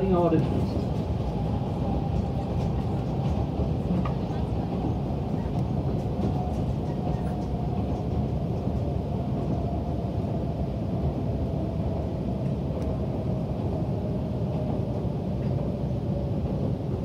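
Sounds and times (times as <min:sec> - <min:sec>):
railcar engine and wheels rumble: 0:00.0 - 0:17.0.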